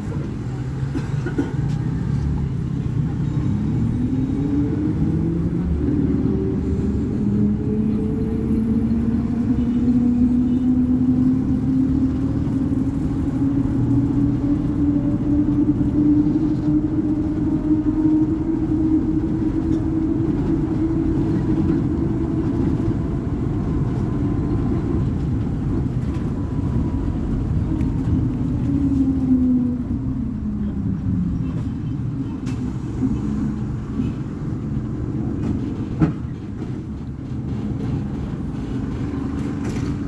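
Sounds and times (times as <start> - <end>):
bus diesel engine revving: 0.1 - 40.0.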